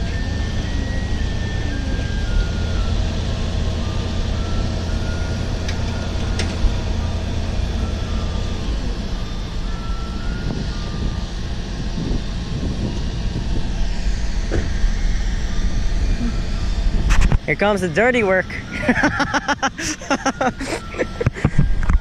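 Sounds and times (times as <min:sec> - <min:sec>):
car engine rumble: 0:00.0 - 0:22.0
melody of high notes: 0:02.0 - 0:21.7.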